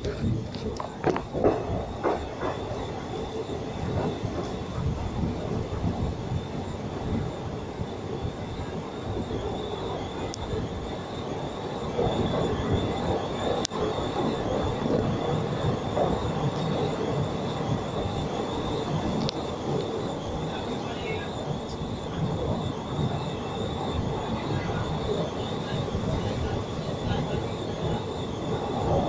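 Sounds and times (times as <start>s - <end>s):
high whine: 0.0s - 29.0s
train wheels rumbling on track: 0.0s - 29.0s.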